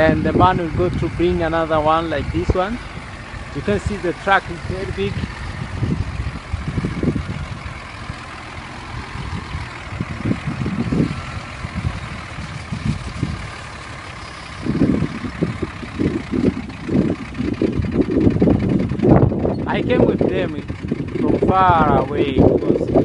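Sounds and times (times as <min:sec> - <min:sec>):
truck engine running: 0:00.0 - 0:23.0
wind buffeting microphone: 0:00.0 - 0:23.0.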